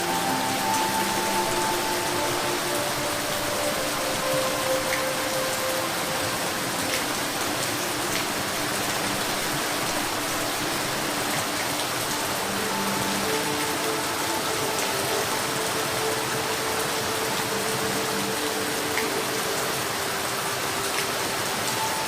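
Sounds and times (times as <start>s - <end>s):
faint steady tones: 0.0s - 22.0s
steady rain: 0.0s - 22.0s.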